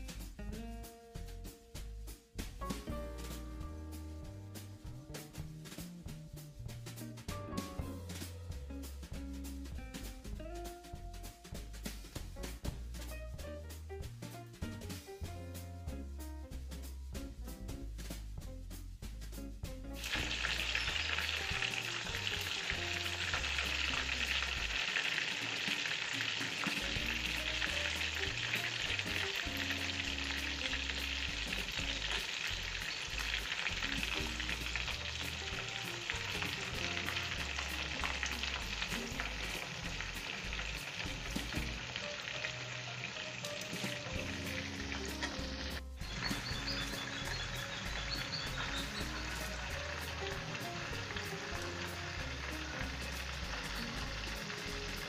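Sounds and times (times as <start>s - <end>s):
deep-frying sizzle and crackle: 0.0s - 55.0s.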